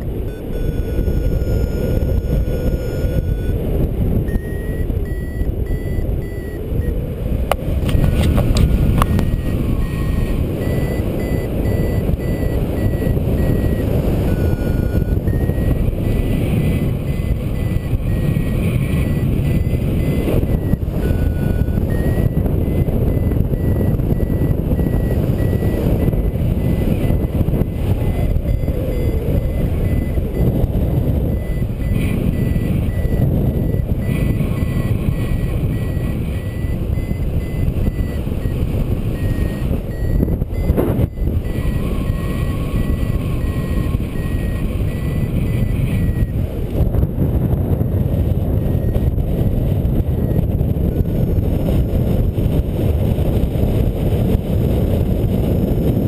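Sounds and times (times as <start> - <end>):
variometer beeping: 0.0 - 53.8
wind rush on microphone: 0.0 - 56.0.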